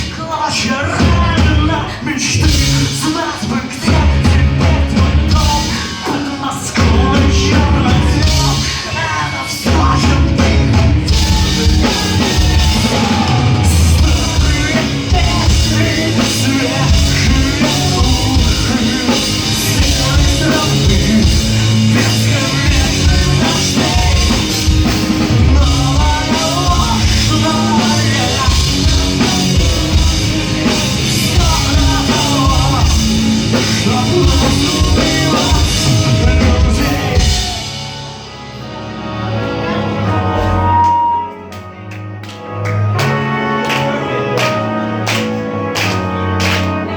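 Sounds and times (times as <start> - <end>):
drum kit: 0.0 - 38.7
distorted electric guitars: 0.0 - 41.6
bass guitar: 0.0 - 46.9
melodic lead guitar line: 0.0 - 46.9.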